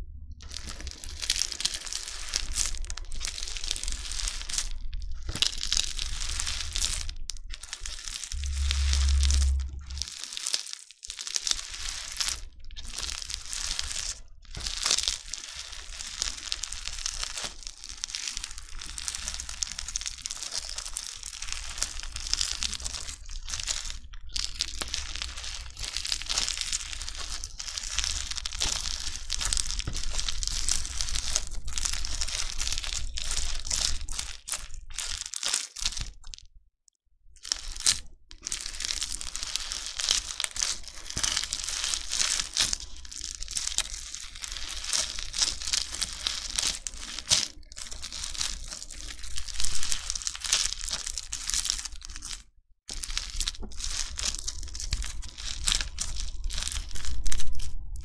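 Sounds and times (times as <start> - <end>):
crunchy slime crackling: 0.4 - 36.5, 37.4 - 58.0.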